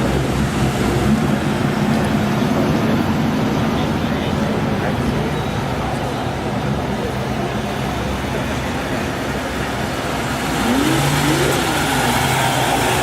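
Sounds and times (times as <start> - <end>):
steady engine tone: 0.0 - 13.0
traffic driving past: 0.0 - 13.0.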